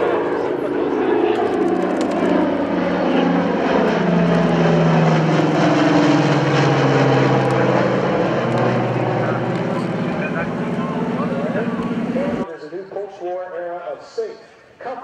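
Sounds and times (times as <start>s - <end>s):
propeller aircraft flying overhead: 0.0s - 12.5s.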